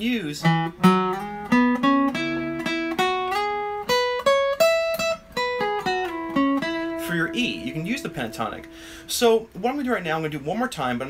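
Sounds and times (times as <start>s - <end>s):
acoustic guitar lick: 0.2s - 9.2s.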